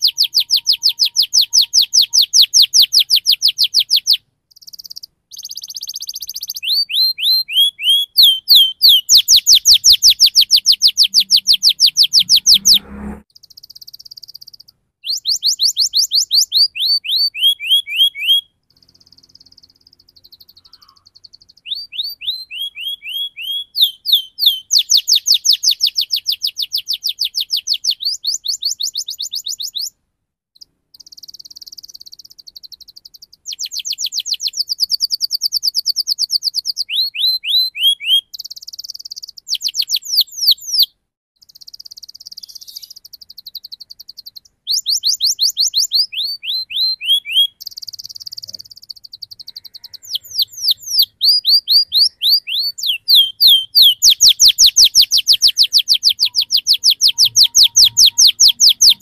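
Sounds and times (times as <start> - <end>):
canary singing trills: 0.0 - 30.0, 30.6 - 59.0.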